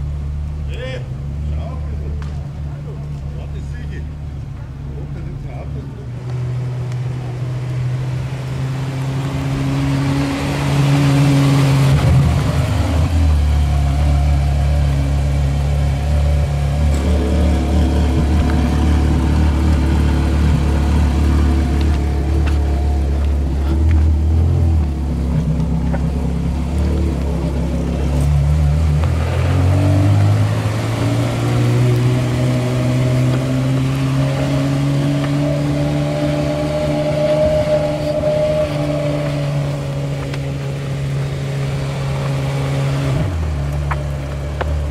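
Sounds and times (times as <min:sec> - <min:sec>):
car engine deep drone: 0:00.0 - 0:44.9.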